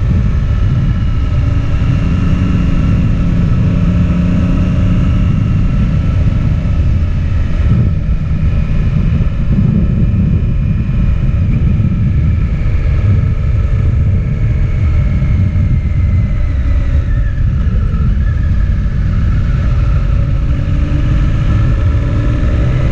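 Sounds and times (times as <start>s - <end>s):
motorcycle engine whine: 0.0s - 22.9s
wind rumble on microphone: 0.0s - 22.9s.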